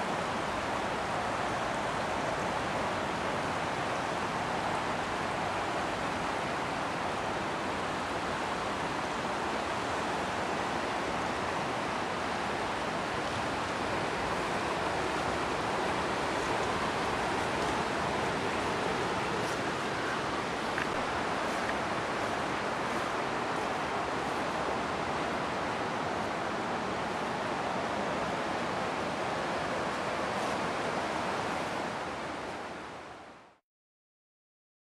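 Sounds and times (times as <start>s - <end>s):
river water rushing: 0.0s - 33.6s.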